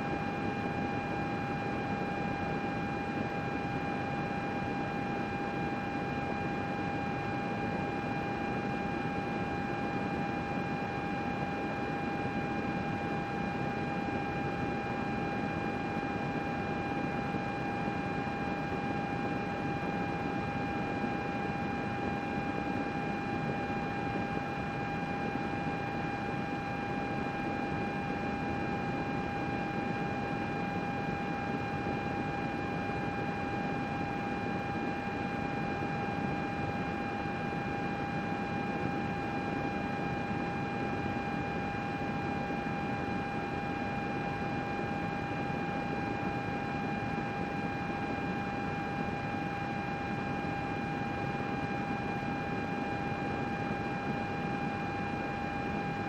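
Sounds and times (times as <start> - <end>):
computer running with whine: 0.0 - 56.0.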